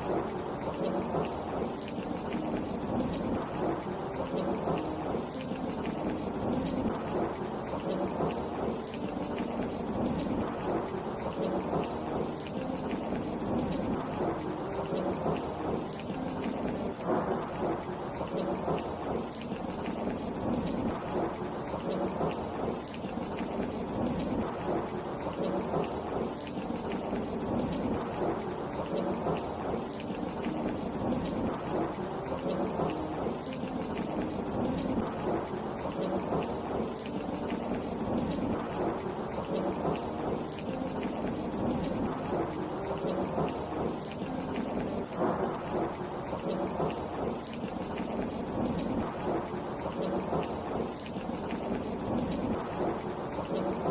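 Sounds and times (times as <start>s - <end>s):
steady rain patter: 0.0s - 53.9s.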